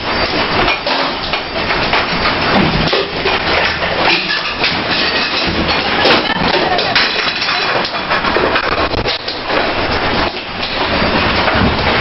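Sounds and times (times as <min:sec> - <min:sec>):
household objects rattling: 0:00.0 - 0:12.0.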